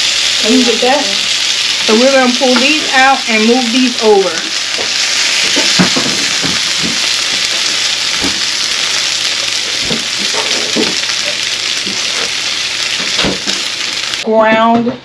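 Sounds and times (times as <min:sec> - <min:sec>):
food sizzling in frying pan: 0:00.0 - 0:14.3.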